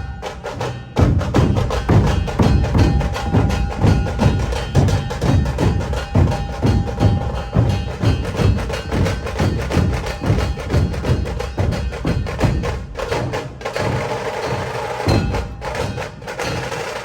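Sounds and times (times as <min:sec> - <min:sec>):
music with drum beat: 0:00.0 - 0:17.0.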